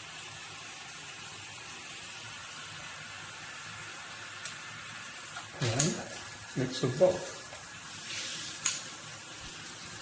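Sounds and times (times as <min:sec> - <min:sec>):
shower spray hissing: 0:00.0 - 0:10.0.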